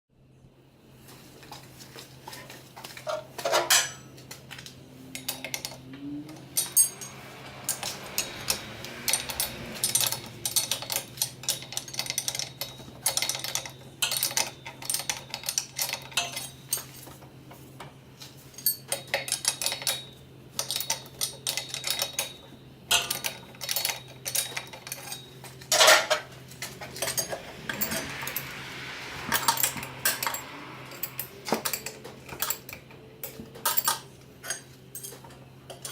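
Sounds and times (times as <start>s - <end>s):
steady low hum: 0.2s - 35.9s
metal tools clinking and clanking: 3.0s - 4.2s, 5.1s - 17.2s, 18.5s - 35.9s.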